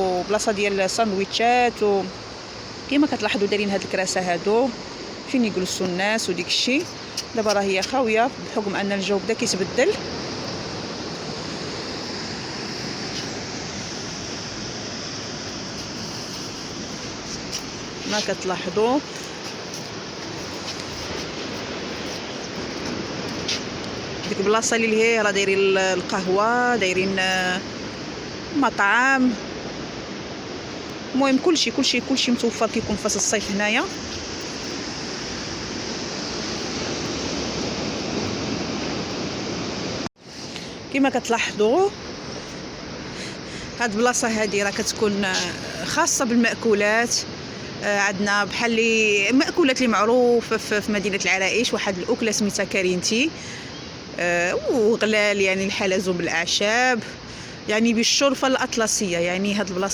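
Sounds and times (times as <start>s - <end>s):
surf breaking on shore: 0.0s - 50.1s
wind on microphone: 0.0s - 50.9s.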